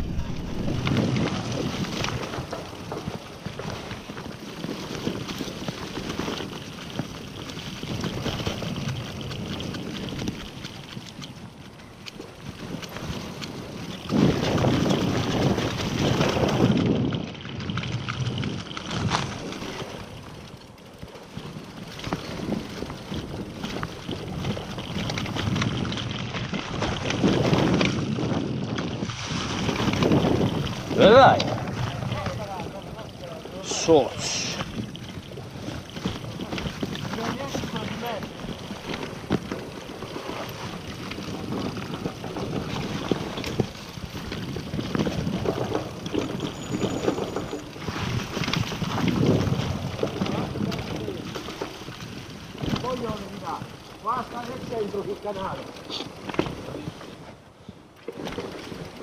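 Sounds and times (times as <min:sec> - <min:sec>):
wind on microphone: 0:00.0 - 0:20.2, 0:21.4 - 0:53.8
bike clicks and rattles: 0:00.0 - 0:59.0
bike tyre noise on dirt: 0:00.0 - 0:59.0.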